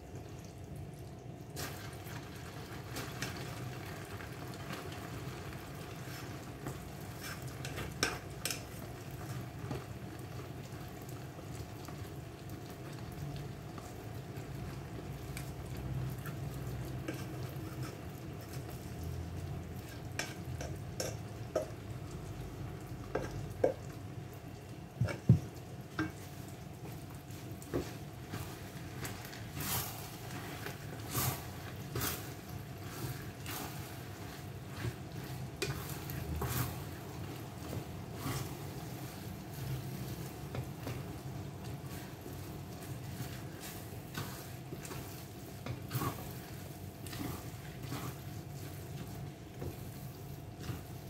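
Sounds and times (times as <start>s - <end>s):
rice mixture sizzling: 0.0s - 51.0s.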